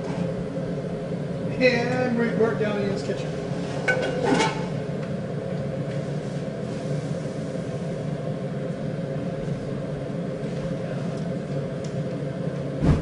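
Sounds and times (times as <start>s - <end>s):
gas burner rumbling with hiss: 0.0s - 13.0s.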